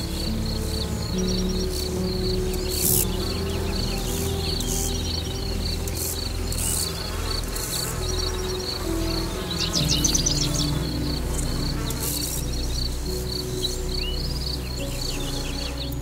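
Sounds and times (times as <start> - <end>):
crickets chirping: 0.0 - 16.0
soft background music: 0.0 - 16.0.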